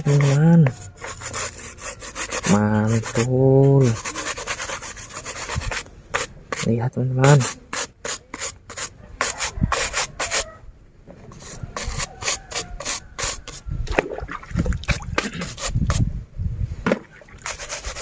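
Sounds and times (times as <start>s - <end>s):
scrub brush rubbing plastic: 0.0s - 10.5s, 11.3s - 13.6s, 14.8s - 16.0s, 17.4s - 18.0s.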